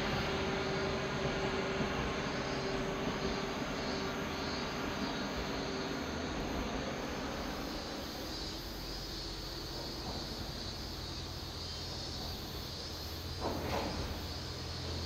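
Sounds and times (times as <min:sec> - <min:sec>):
diesel railcar engine rumble: 0:00.0 - 0:15.0
steady high hiss: 0:00.0 - 0:15.0.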